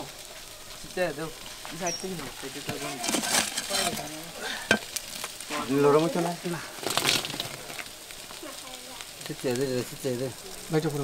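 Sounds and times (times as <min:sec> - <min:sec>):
embers crackling and sizzling: 0:00.0 - 0:11.0.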